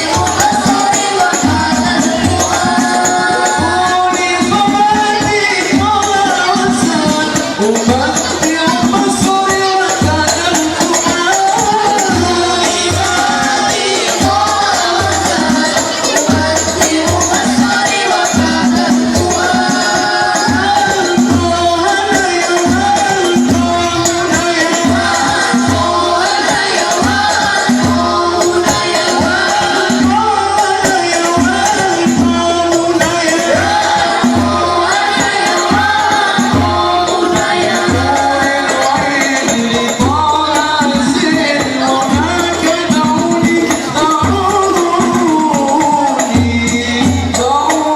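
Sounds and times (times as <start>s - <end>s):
frame drums: 0.0s - 47.9s
voices singing devotional melody: 0.0s - 47.9s.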